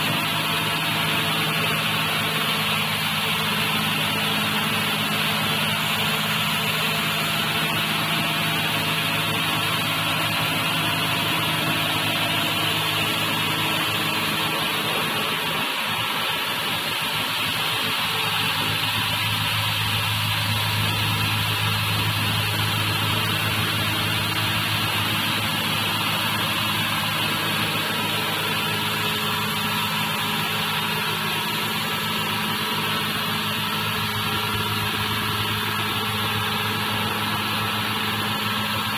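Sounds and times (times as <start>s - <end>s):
car wash motor and pump hum: 0.0s - 38.9s.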